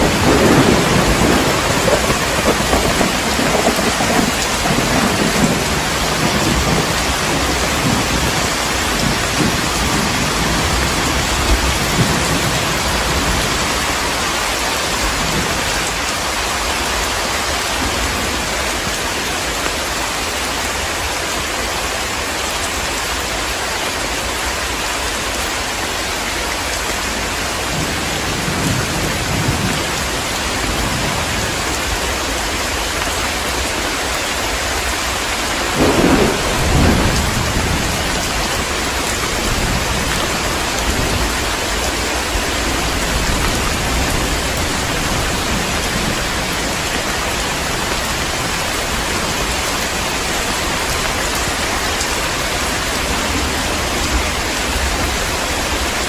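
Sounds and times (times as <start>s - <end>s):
thunder rumbling: 0.0s - 18.6s, 27.6s - 32.7s, 34.7s - 56.0s
heavy rain: 0.0s - 56.0s.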